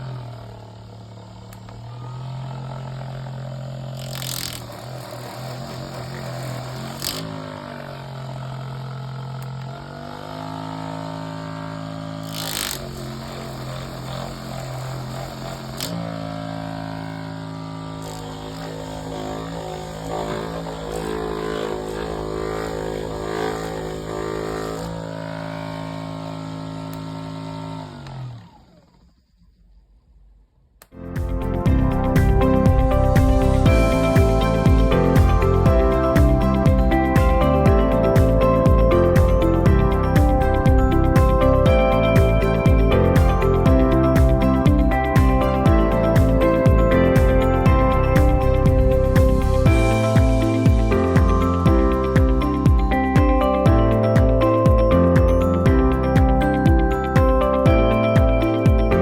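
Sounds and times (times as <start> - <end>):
massage gun motor buzzing: 0.0 - 29.9, 30.9 - 59.0.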